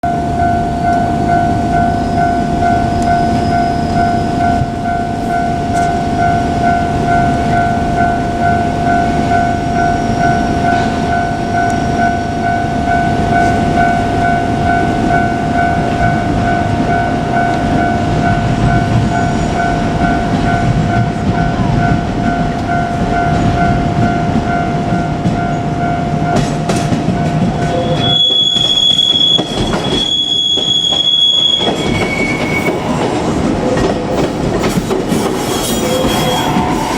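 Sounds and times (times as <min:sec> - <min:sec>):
crossing warning bell dinging: 0:00.0 - 0:36.9
train wheels rumbling on rails: 0:00.0 - 0:36.9.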